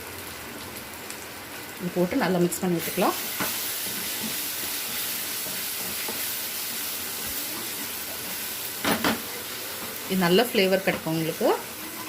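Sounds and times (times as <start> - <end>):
pickle sizzling in oil: 0.0 - 12.0.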